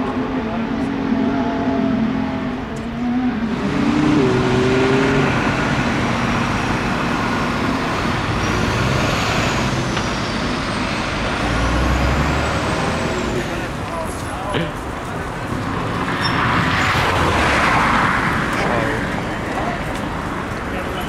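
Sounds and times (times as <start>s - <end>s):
racing car engine: 0.0s - 20.7s
high engine whine: 0.0s - 21.0s.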